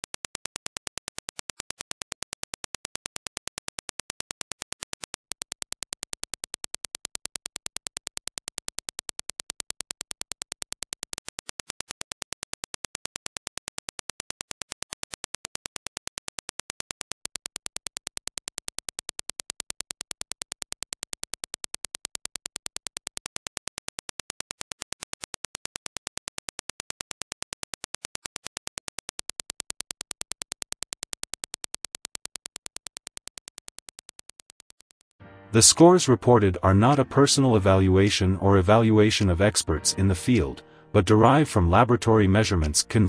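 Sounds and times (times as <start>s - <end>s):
rapid train of sharp clicks: 0.0s - 35.2s.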